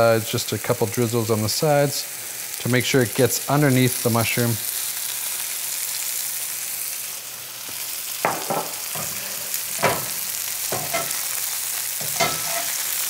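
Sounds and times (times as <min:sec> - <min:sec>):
mushrooms sizzling in oil: 0:00.0 - 0:13.0.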